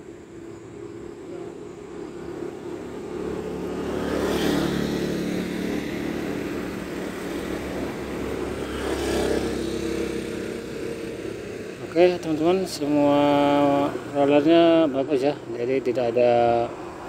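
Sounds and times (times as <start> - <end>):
road noise: 0.0 - 17.0
vehicle engines passing: 0.0 - 17.0.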